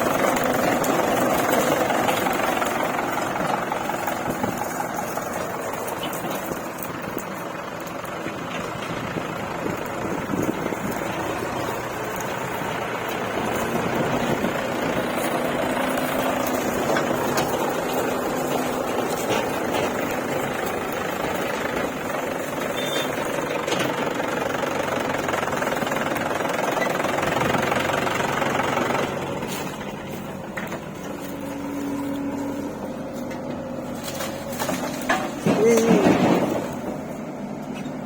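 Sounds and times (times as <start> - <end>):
heavy machinery engine rattling: 0.0 - 38.0.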